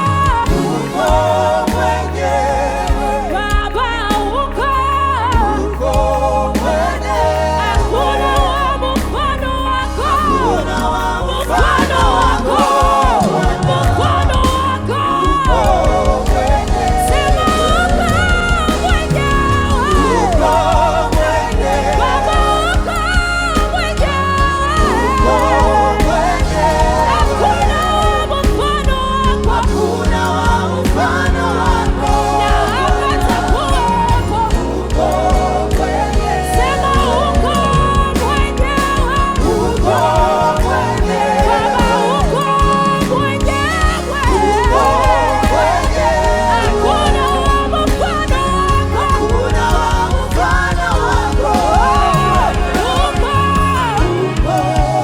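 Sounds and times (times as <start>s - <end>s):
drum beat: 0.0s - 4.6s, 5.4s - 9.6s, 10.2s - 55.0s
bass line: 0.0s - 55.0s
person singing: 0.0s - 55.0s.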